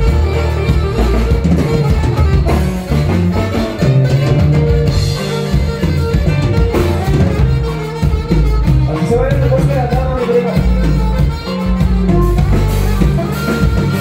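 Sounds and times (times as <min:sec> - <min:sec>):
bass guitar: 0:00.0 - 0:14.0
drums: 0:00.0 - 0:14.0
live band music: 0:00.0 - 0:14.0.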